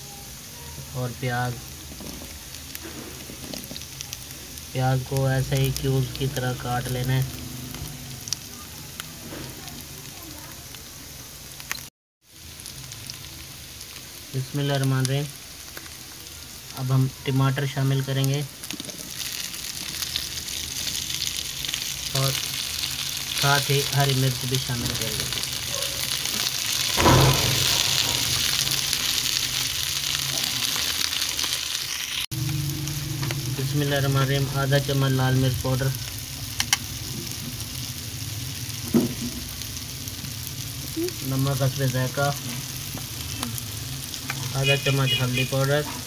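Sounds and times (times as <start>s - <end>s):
potatoes sizzling in a frying pan: 0.0s - 46.0s.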